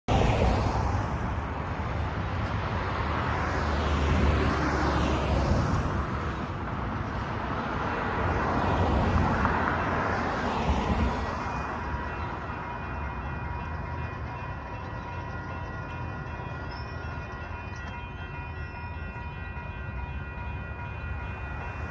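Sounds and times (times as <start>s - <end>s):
cars driving past: 0.1s - 18.2s.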